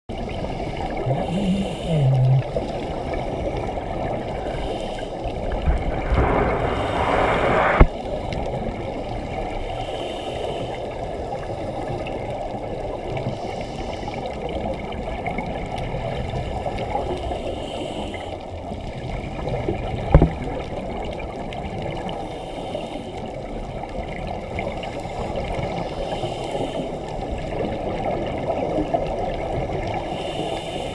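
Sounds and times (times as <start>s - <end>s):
scuba exhaust bubbles: 0.1s - 30.9s
underwater rush of water: 0.1s - 30.9s.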